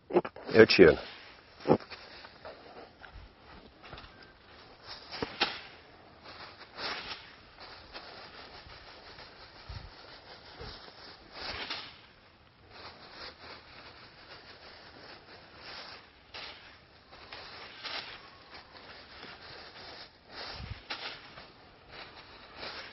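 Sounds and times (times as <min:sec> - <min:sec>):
plastic bag rustling: 0:00.5 - 0:22.9.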